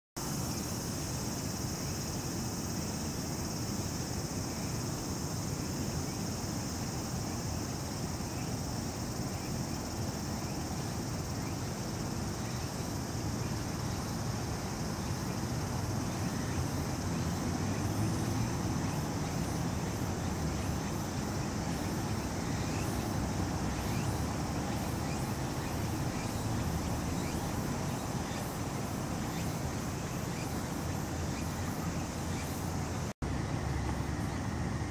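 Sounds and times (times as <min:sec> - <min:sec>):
high-pitched insect chorus: 0:00.2 - 0:34.9.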